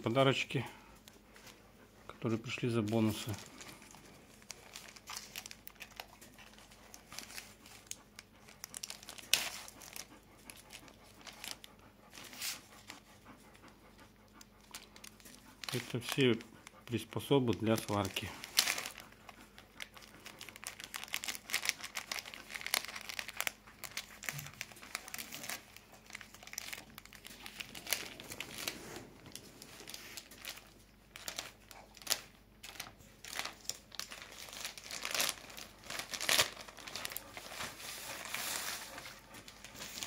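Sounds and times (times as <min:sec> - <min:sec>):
plastic bag crinkling: 0:02.4 - 0:13.0, 0:14.3 - 0:40.0.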